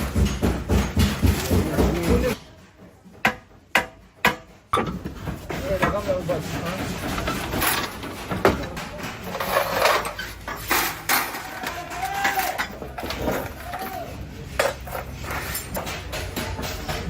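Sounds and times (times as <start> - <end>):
hand tools knocking on metal: 0.0 - 17.0.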